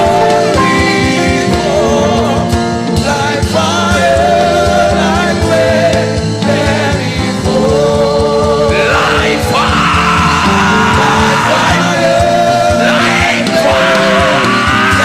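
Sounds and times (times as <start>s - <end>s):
band playing held chords: 0.0s - 15.0s
person singing: 0.0s - 15.0s
steady drum beat: 0.0s - 15.0s.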